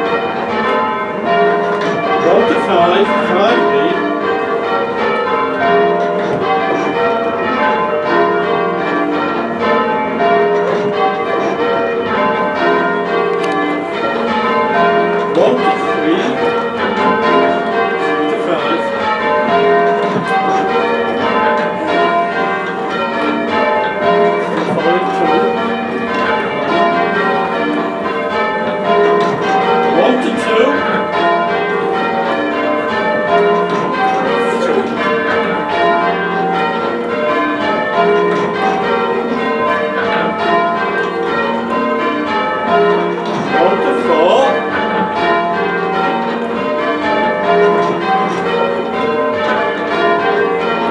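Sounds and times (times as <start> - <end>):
church bells change ringing: 0.0 - 50.9.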